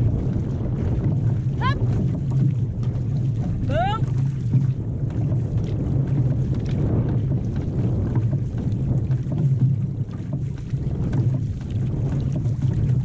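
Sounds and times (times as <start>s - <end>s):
water rushing along hull: 0.0s - 13.0s
wind on microphone: 0.0s - 13.0s.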